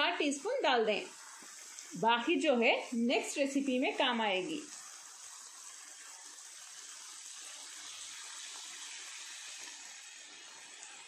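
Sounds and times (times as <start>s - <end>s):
food sizzling faintly: 0.0s - 11.0s.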